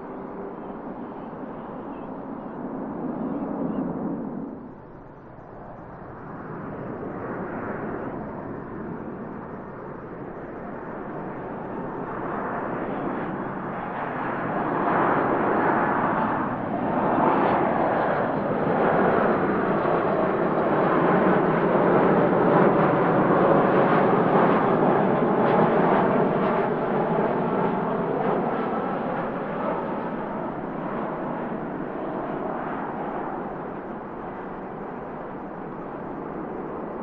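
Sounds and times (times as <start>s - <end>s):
jet engines passing close: 0.0s - 37.0s.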